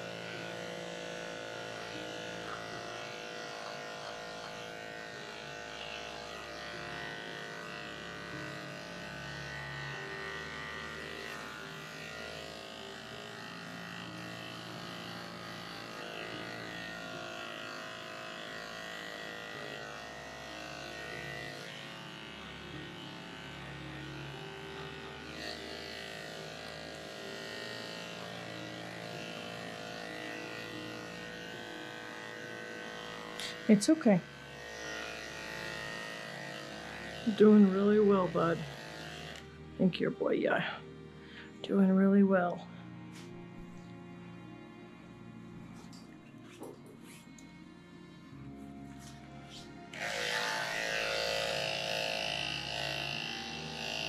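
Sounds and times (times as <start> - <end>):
electric clippers shaving dog coat: 0.0 - 54.0.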